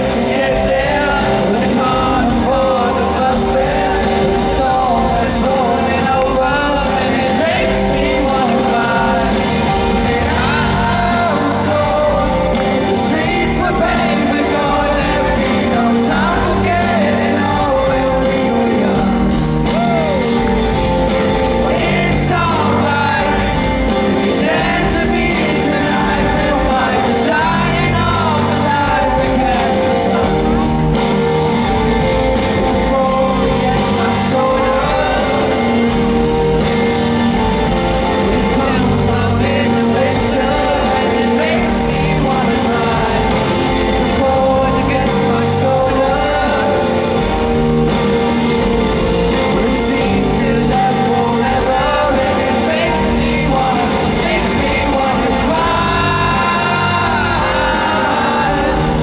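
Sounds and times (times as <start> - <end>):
bass line: 0.0 - 59.0
man singing: 0.0 - 59.0
strummed acoustic guitar: 0.0 - 59.0.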